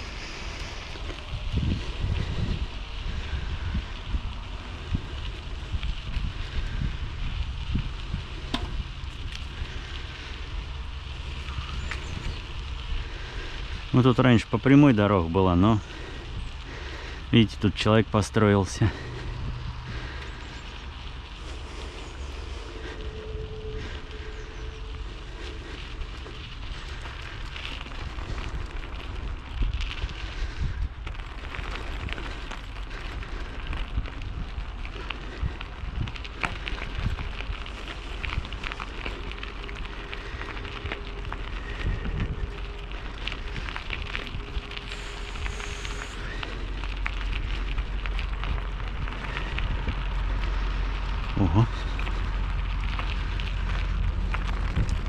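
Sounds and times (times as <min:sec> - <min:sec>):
bicycle tyres on rough track: 0:00.0 - 0:55.0
wind rumble on microphone: 0:00.0 - 0:55.0.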